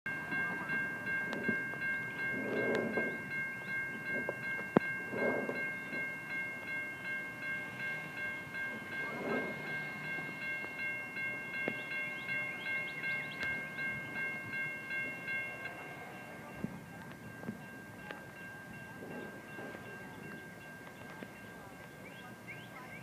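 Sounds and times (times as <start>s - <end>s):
railroad crossing bell ringing: 0.1s - 23.0s.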